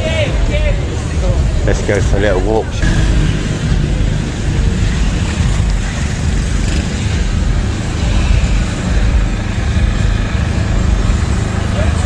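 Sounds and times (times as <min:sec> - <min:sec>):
road traffic rumble: 0:00.0 - 0:12.0
wind buffeting microphone: 0:00.0 - 0:12.0.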